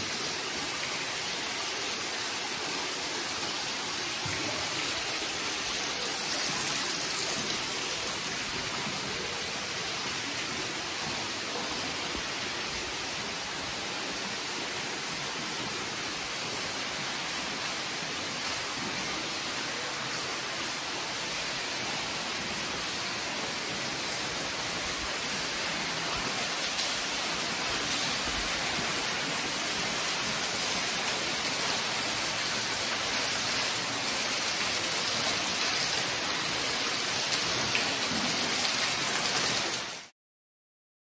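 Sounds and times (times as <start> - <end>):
running water rushing: 0.0 - 40.1.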